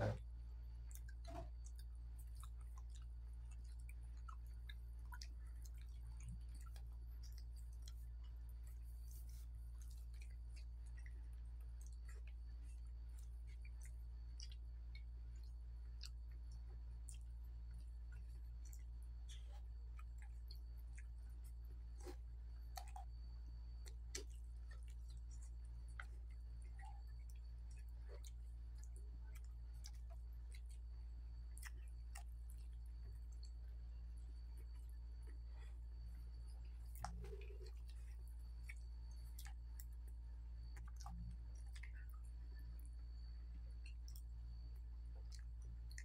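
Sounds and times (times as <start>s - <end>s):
chewing smacks: 0.0s - 46.0s
steady low hum: 0.0s - 46.0s.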